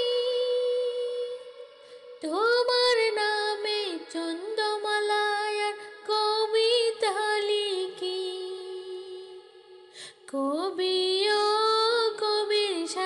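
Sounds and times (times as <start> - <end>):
woman singing unaccompanied: 0.0 - 9.4, 10.2 - 13.0.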